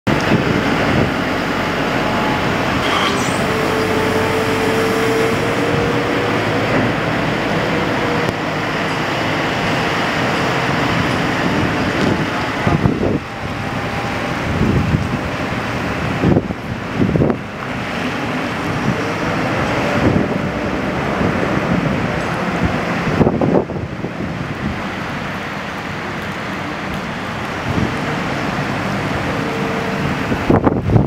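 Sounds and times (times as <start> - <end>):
road traffic noise: 0.0 - 31.0
diesel engine driving past: 0.1 - 31.0.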